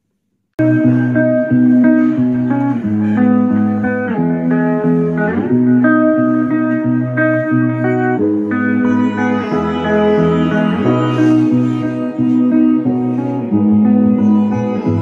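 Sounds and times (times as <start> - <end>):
bluesy slide guitar music: 0.6 - 15.0.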